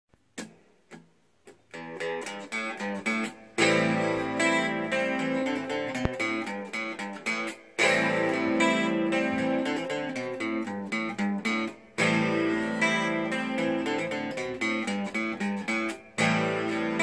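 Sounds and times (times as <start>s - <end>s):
electric guitar playing: 0.4s - 17.0s.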